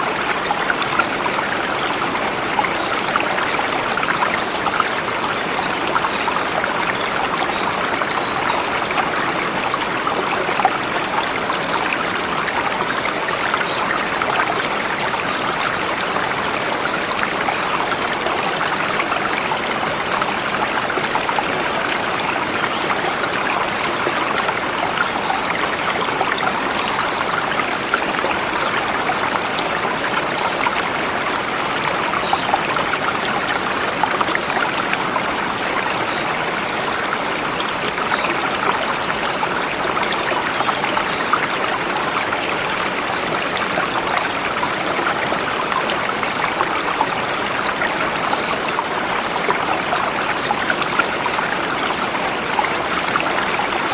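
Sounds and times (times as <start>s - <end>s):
river flowing over rocks: 0.0s - 53.9s.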